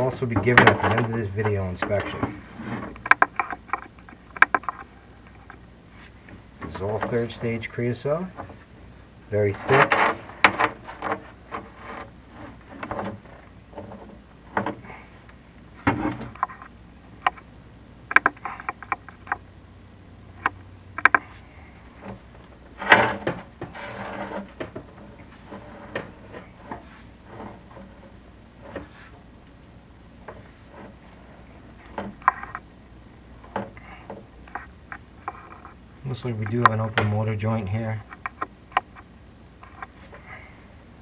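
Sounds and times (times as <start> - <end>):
rods knocking inside a flue: 0.0 - 17.4, 20.4 - 35.8.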